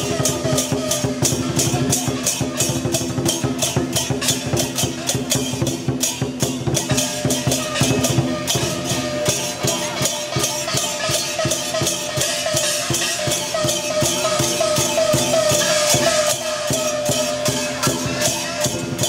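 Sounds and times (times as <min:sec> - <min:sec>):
cymbals crashing: 0:00.0 - 0:19.0
drum beaten fast: 0:00.0 - 0:19.0.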